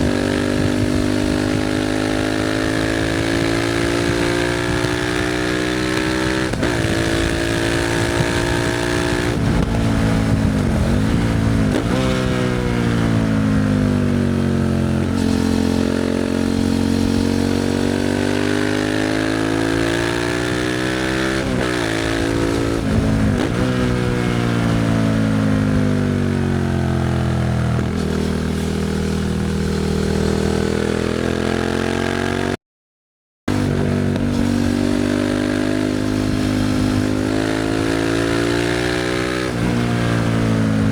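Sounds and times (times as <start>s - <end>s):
motorcycle engine revving: 0.0s - 32.6s, 33.5s - 40.9s.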